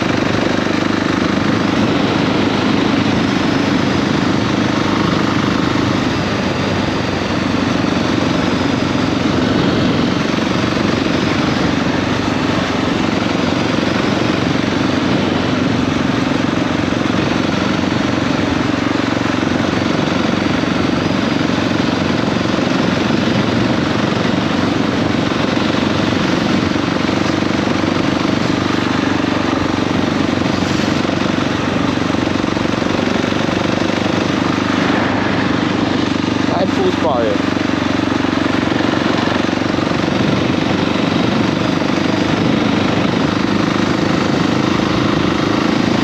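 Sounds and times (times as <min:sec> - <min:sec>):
motorcycle engine running steadily: 0:00.0 - 0:46.0.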